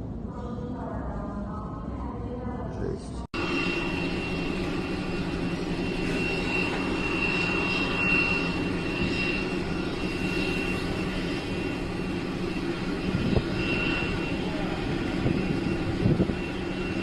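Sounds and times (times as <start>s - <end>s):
jet engines rumbling: 0.0s - 17.0s
high steady engine whine: 3.3s - 17.0s.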